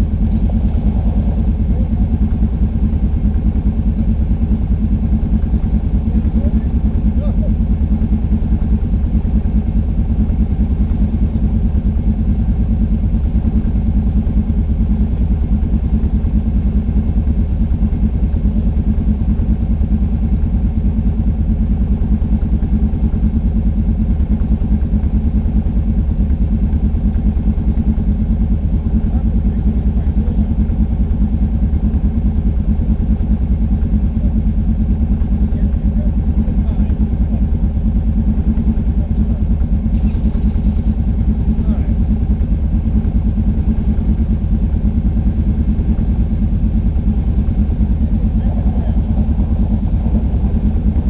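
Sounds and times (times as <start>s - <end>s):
quad engine idling: 0.0s - 51.0s.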